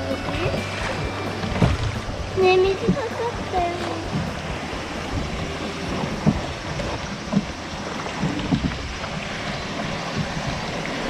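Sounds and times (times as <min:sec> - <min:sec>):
river water rushing: 0:00.0 - 0:11.0
wind on microphone: 0:00.0 - 0:11.0.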